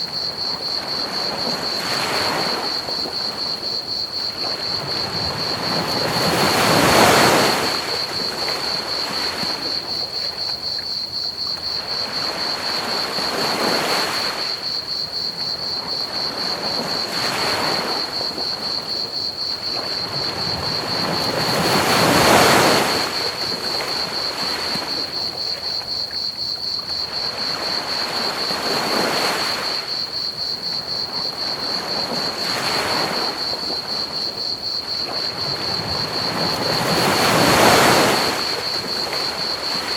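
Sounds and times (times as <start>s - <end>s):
crickets chirping: 0.0s - 39.9s
ocean waves washing on beach: 0.0s - 39.9s.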